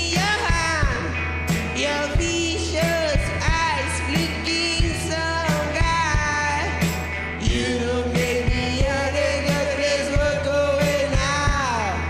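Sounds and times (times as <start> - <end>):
drum kit: 0.0 - 12.0
electric guitars: 0.0 - 12.0
man singing lead vocals: 0.0 - 12.0.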